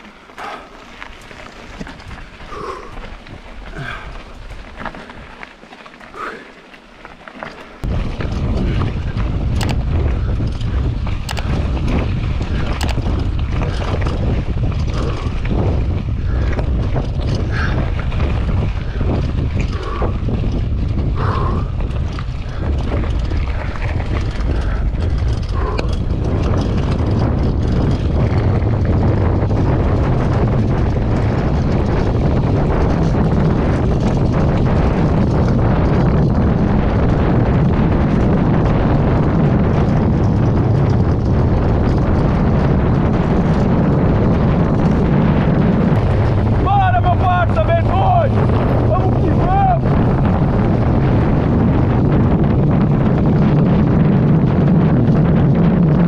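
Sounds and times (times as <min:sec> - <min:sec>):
bike clicks and knocks: 0:00.0 - 0:47.2
wind rumbling on microphone: 0:00.0 - 0:56.0.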